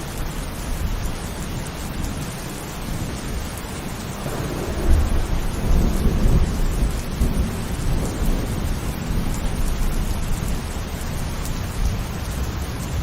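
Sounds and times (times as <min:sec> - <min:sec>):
rain falling: 0:00.0 - 0:13.0
thunder rumbling: 0:00.7 - 0:13.0.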